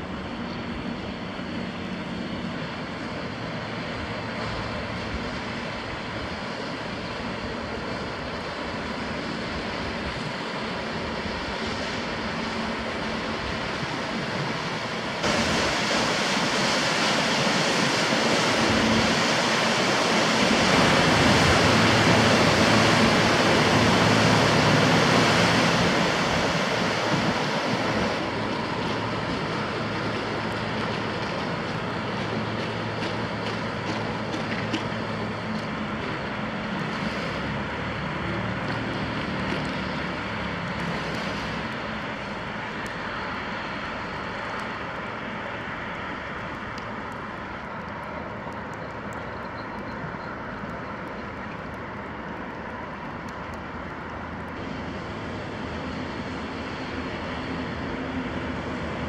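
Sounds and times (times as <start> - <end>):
rush of bow wave and wake: 0.0 - 49.4, 50.4 - 59.0
boat engine droning: 0.0 - 59.0.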